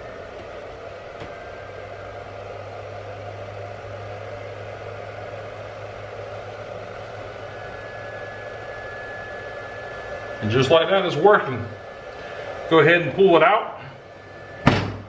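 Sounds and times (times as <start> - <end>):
battery charger hum and whine: 0.0 - 15.0.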